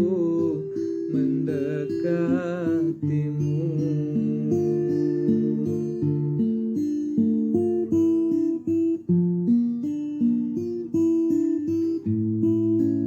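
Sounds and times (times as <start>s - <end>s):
acoustic guitar playing chords: 0.0s - 13.0s.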